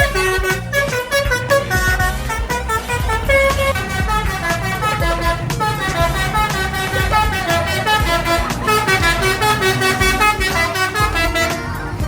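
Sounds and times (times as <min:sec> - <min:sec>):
bus engine rumble: 0:00.0 - 0:12.0
musical air horn melody: 0:00.0 - 0:12.0.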